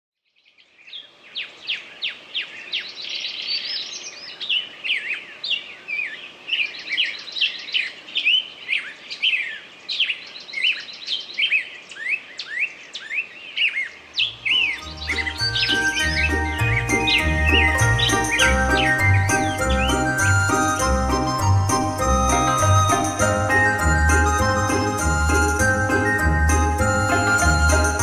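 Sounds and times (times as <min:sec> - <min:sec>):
songbirds chirping and singing: 0:00.5 - 0:28.0.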